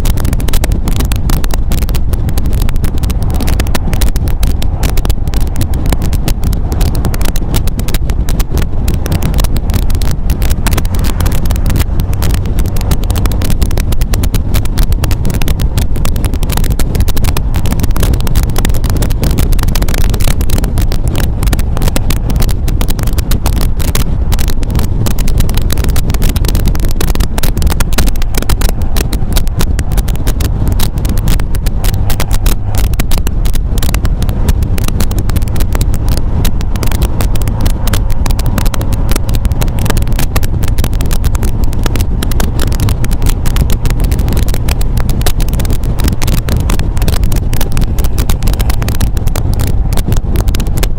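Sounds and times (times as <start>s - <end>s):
car engine running: 0.0s - 50.9s
wind buffeting microphone: 0.0s - 50.9s.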